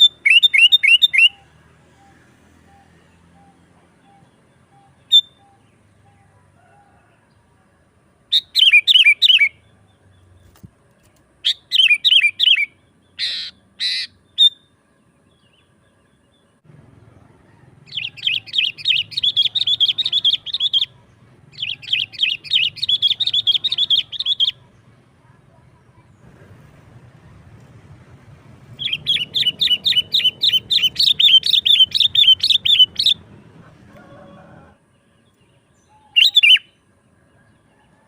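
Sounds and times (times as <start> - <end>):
harsh bird calls: 0.0 - 6.3, 8.3 - 25.0, 28.0 - 36.8
bulbul singing: 0.0 - 6.4, 8.3 - 10.7, 11.4 - 26.3, 26.9 - 34.1, 35.0 - 36.9.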